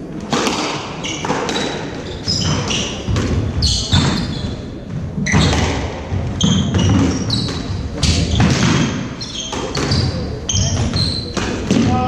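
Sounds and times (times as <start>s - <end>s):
squash ball smacking: 0.2s - 12.0s
shoes squeaking on wooden floor: 0.6s - 12.0s.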